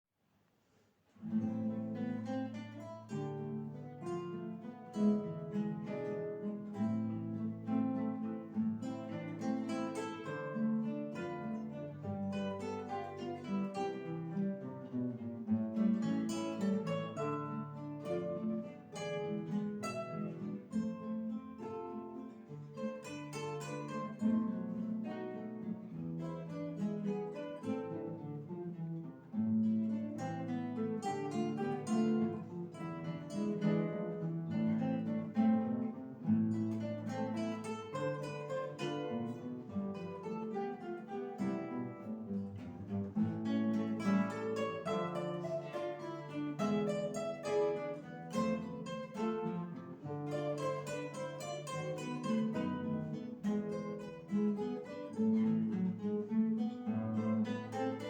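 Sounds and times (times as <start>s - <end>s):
acoustic guitar ensemble playing: 1.1s - 58.0s.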